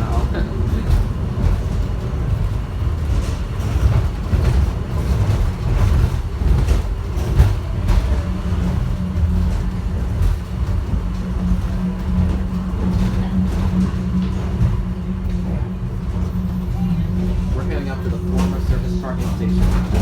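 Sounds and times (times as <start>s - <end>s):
rattles and clicks: 0.0s - 20.0s
steady low hum: 0.0s - 20.0s
train running low rumble: 0.0s - 20.0s.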